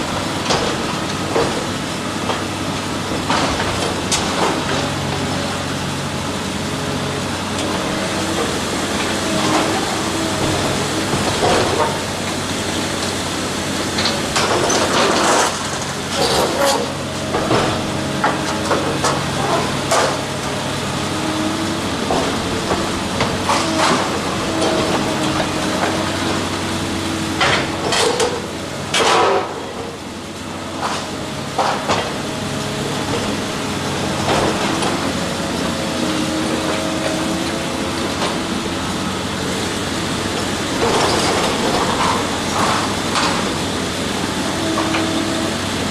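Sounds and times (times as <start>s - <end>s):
heavy machine engine whine: 0.0s - 45.9s.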